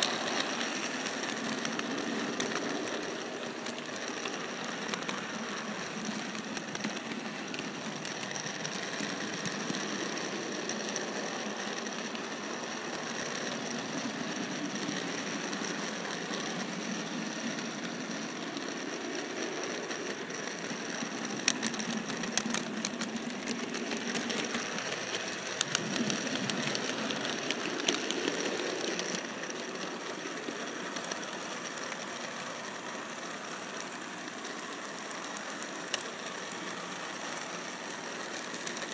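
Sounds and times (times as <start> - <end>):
train wheel rumble: 0.0 - 38.9
wheels clicking over rail joints: 0.0 - 38.9.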